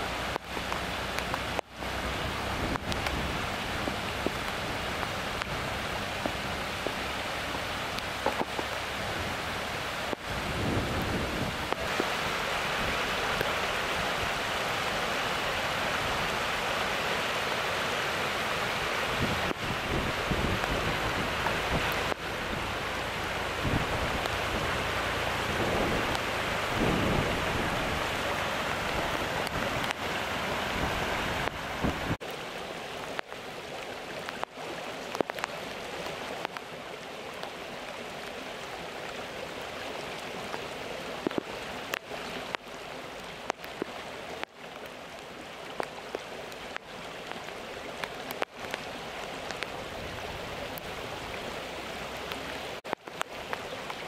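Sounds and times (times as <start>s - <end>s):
floodwater rushing with deep rumble: 0.0s - 54.0s
water pouring from a culvert: 0.0s - 54.0s.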